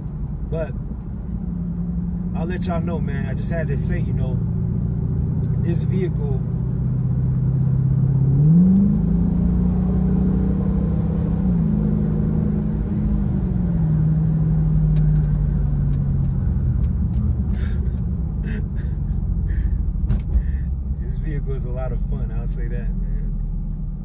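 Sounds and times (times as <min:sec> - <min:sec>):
car engine revving: 0:01.6 - 0:24.0.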